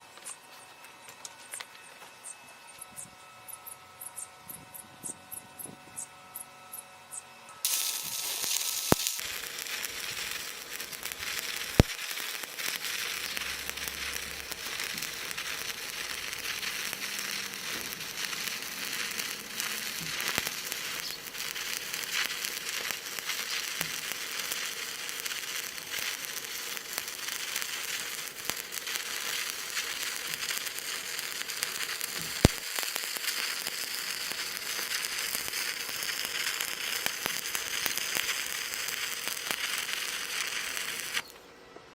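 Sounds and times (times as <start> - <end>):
welding arc crackling: 7.6 - 41.4
sharp pops: 7.7 - 41.4.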